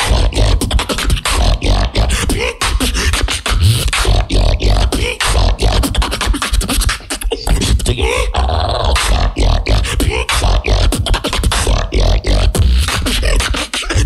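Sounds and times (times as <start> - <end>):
beatboxing vocal percussion: 0.0 - 14.0
deep vocal bass: 0.0 - 14.0.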